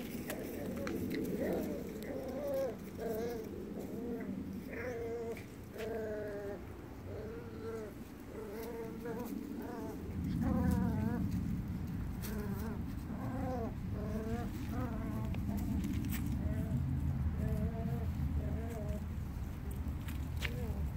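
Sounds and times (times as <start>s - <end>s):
puppy whining: 0.0s - 20.9s.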